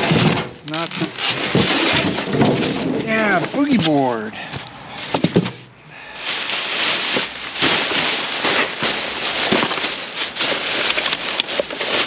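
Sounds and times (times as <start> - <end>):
junk rustling and clattering: 0.0 - 12.0.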